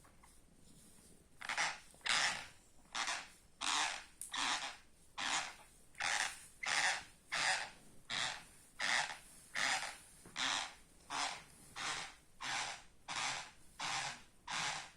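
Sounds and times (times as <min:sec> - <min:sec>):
teeth grinding in sleep: 0:01.4 - 0:14.9.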